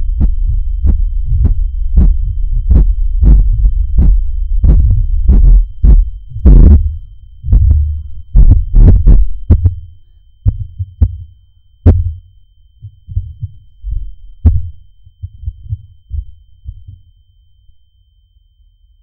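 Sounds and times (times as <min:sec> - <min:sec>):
heartbeat thumps: 0:00.0 - 0:17.1.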